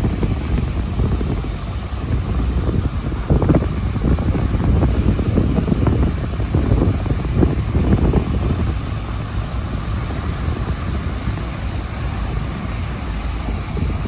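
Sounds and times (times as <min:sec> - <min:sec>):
roar of high surf: 0:00.0 - 0:14.0
wind buffeting microphone: 0:00.0 - 0:14.0.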